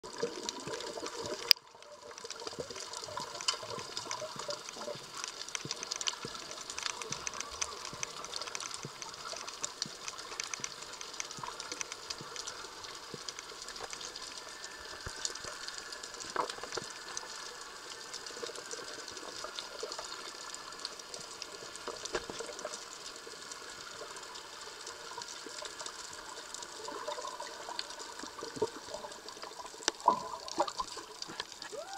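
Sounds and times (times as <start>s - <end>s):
small clicks and crackles: 0.0s - 31.9s
steady underwater hiss: 0.0s - 31.9s.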